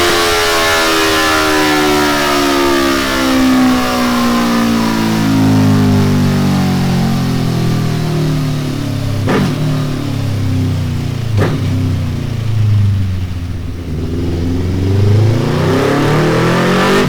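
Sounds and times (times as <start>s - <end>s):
motorcycle engine revs: 0.0s - 17.0s
sharp exhaust crack: 0.0s - 17.0s.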